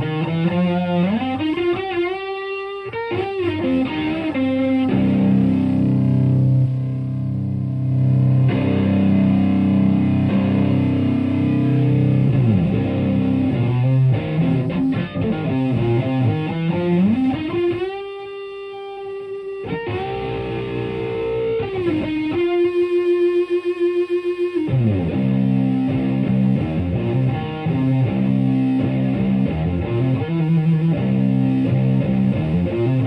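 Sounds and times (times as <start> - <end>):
distorted electric guitar: 0.0 - 33.0.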